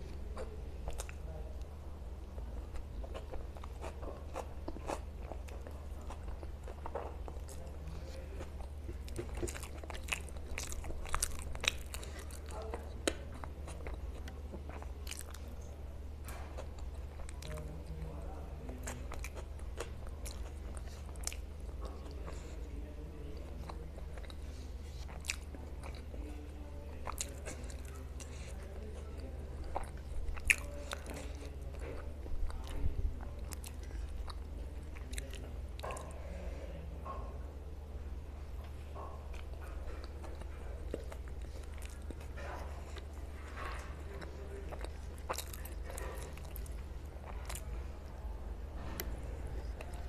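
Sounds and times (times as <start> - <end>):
person chewing with wet clicks: 0.0 - 50.0.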